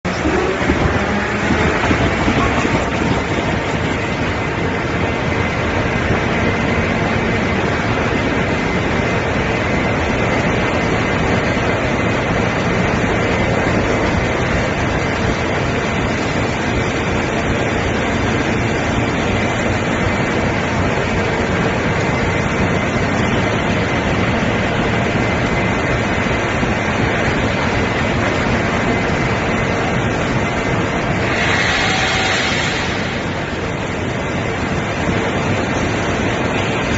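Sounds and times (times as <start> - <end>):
machinery mechanical din: 0.0 - 36.9
faint steady whine: 0.1 - 36.9.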